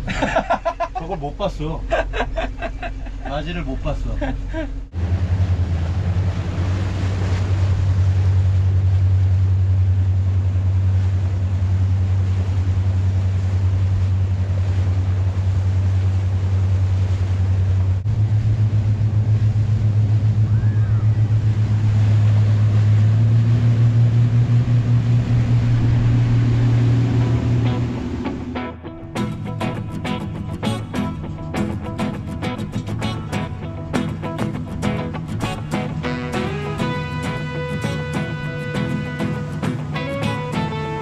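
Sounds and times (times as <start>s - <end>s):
outboard motors droning: 0.0s - 41.0s
wind and water rushing: 0.0s - 41.0s.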